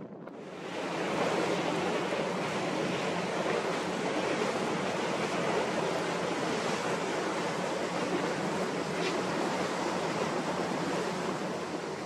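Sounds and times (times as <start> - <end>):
water rushing along a boat: 0.0 - 12.0
wind on microphone: 0.0 - 12.0.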